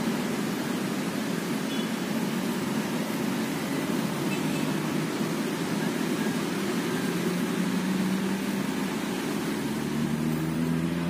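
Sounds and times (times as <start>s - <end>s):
city traffic noise: 0.0s - 11.0s
vehicle engine hum: 0.0s - 11.0s.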